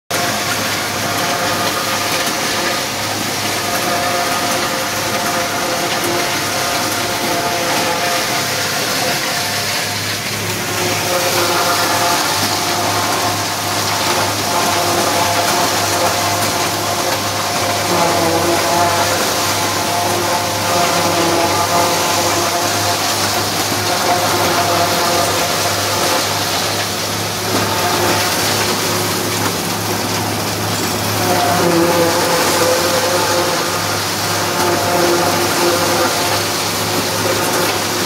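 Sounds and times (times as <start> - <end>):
tractor engine and chopper drone: 0.1 - 38.0.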